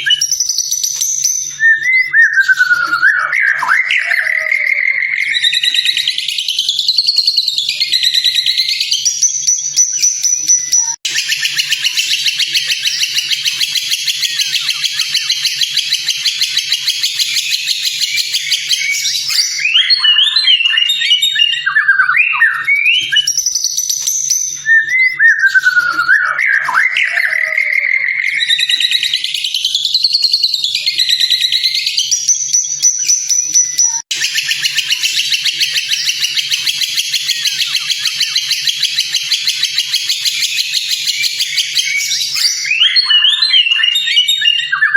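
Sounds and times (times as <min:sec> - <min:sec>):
songbird whistling and chattering: 0:00.0 - 0:44.9.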